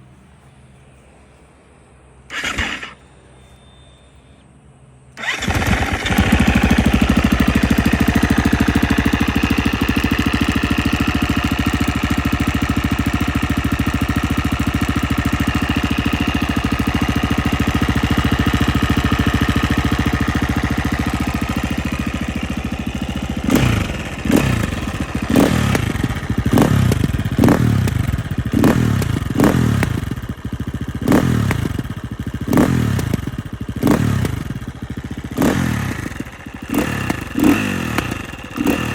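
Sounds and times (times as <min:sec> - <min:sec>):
motorcycle engine idling and revving: 0:02.2 - 0:03.5, 0:05.2 - 0:38.9.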